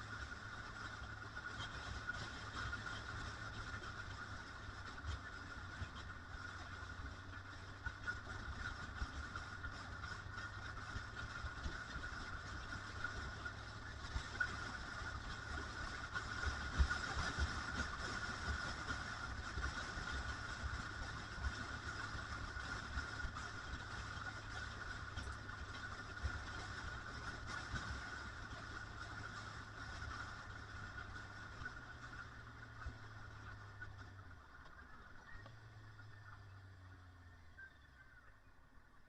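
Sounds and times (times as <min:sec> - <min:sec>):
motorcycle engine whine: 0:00.0 - 0:39.0.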